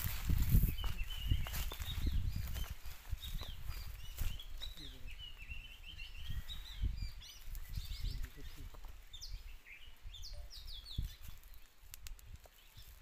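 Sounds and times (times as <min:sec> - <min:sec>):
low rumble on microphone: 0:00.0 - 0:11.4
small birds chirping: 0:00.0 - 0:13.0.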